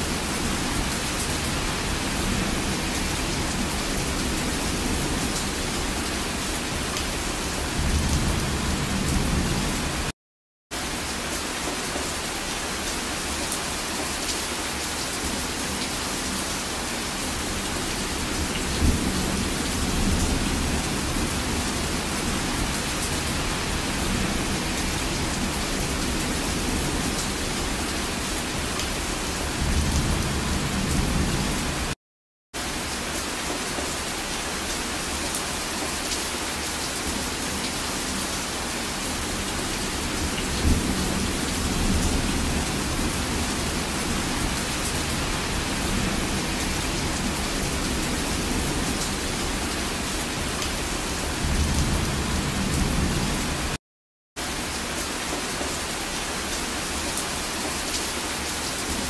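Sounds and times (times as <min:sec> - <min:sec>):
heavy rain falling: 0:00.0 - 0:10.1, 0:10.8 - 0:32.0, 0:32.6 - 0:53.8, 0:54.4 - 0:59.0.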